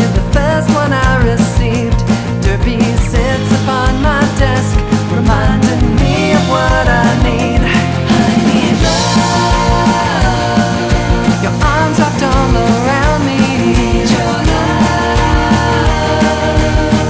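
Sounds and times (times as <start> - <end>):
pop-punk song: 0.0 - 17.0.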